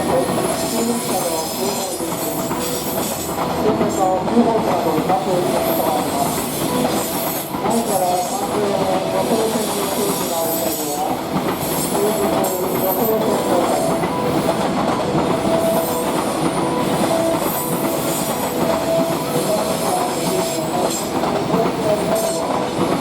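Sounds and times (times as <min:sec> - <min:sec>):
freight train rumbling: 0:00.0 - 0:23.0
rail clatter: 0:00.0 - 0:23.0.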